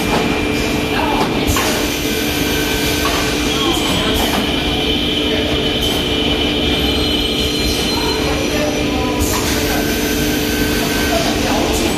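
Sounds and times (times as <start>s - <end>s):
higher machine whine: 0.0s - 11.9s.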